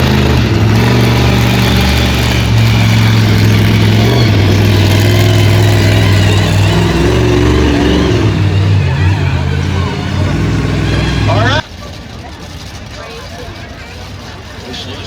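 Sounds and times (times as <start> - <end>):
loud truck engine running: 0.0 - 15.0.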